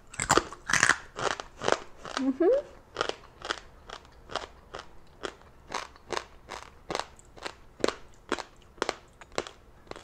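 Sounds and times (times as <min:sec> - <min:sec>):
crunchy chewing: 0:00.1 - 0:02.3, 0:02.9 - 0:10.0.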